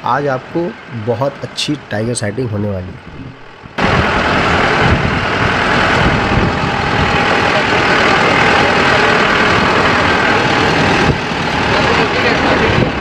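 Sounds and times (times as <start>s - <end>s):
road and wind noise: 0.0s - 13.0s
vehicle engine running: 0.0s - 13.0s.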